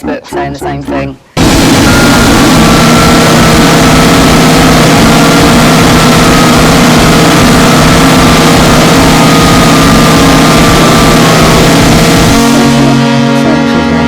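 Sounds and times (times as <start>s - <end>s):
distorted electronic static: 1.4s - 14.0s
steady droning tones: 1.4s - 14.0s.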